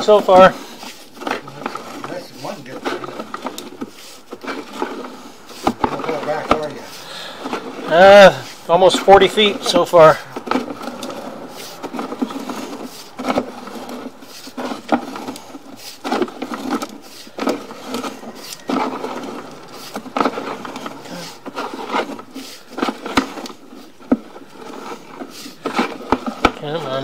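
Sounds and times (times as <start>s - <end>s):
cable knocking and scraping in pipe: 0.0s - 27.0s.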